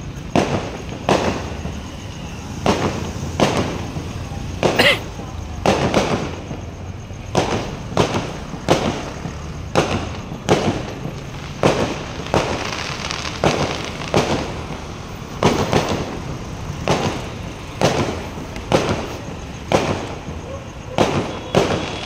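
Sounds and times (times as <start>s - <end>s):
fireworks bangs with echo: 0.0s - 22.0s.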